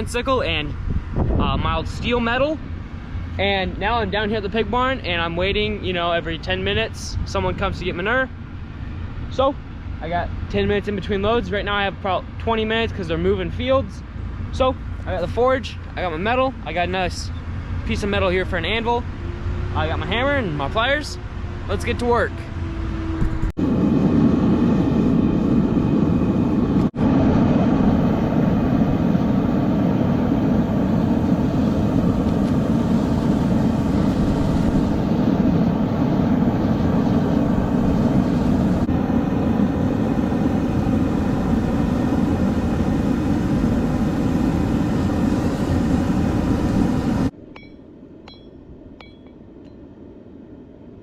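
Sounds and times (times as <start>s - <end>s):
loud steady machine roar: 0.0s - 47.4s
faint hum: 0.0s - 51.0s.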